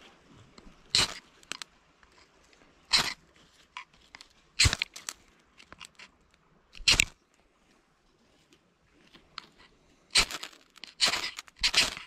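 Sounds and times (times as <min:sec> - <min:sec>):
light scrapes and clicks: 0:00.0 - 0:06.2, 0:06.8 - 0:07.2, 0:08.2 - 0:12.0.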